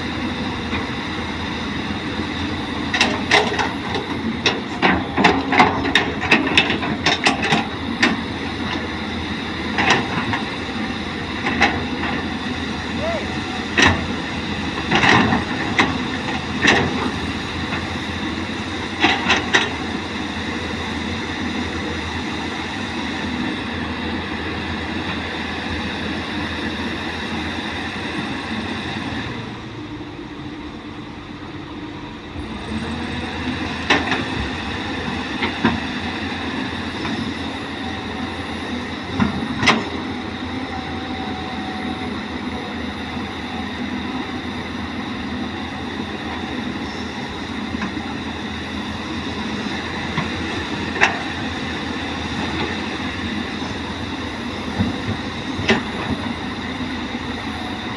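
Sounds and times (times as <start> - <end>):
excavator engine and hydraulics: 0.0 - 57.9.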